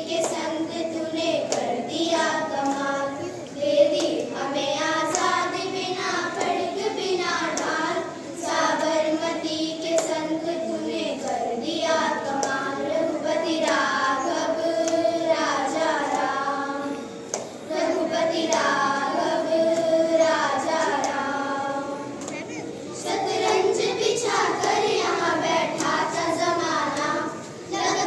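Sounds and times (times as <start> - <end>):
children singing in unison: 0.0 - 28.0
light hand clapping: 0.2 - 5.7, 6.3 - 11.5, 12.2 - 12.9, 13.6 - 16.4, 17.3 - 18.8, 19.7 - 21.3, 22.1 - 28.0.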